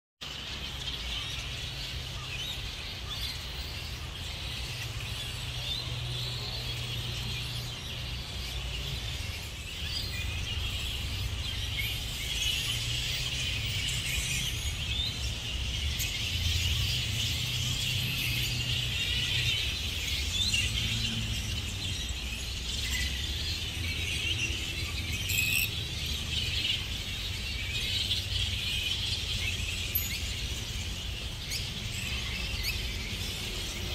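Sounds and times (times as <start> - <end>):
flying foxes squeaking and chattering: 0.2 - 33.9.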